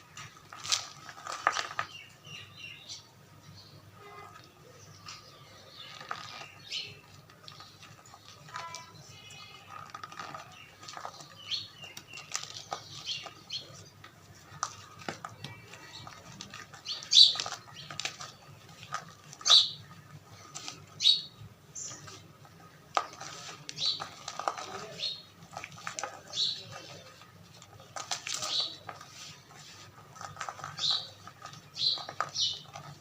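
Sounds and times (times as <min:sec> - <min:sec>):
chalk squeaky crunches: 0:00.0 - 0:03.0, 0:04.0 - 0:33.0.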